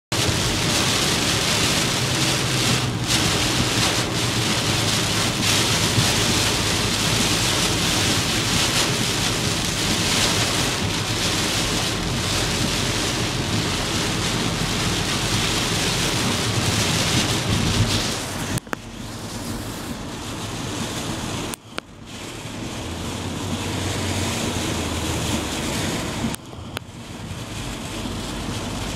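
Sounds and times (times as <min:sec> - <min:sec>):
heavy rain and wind on truck: 0:00.1 - 0:28.9.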